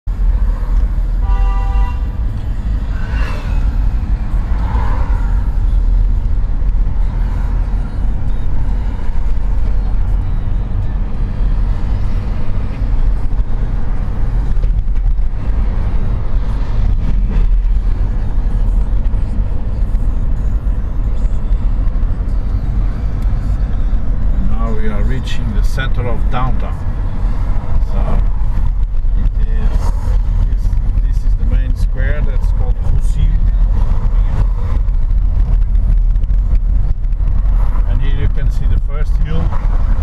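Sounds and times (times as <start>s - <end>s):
car engine and road noise: 0.0s - 40.0s.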